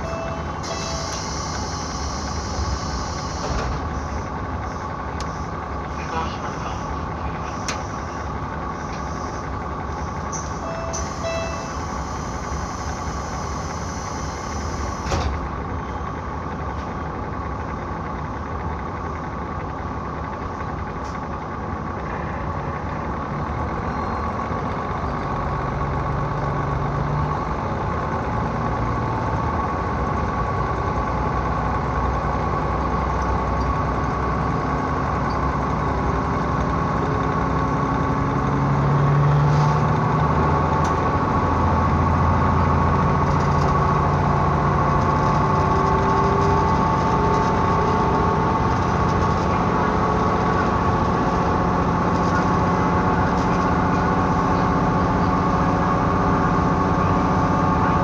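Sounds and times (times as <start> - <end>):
diesel railcar engine drone: 0.0 - 58.0
wheel and rail noise: 0.0 - 58.0.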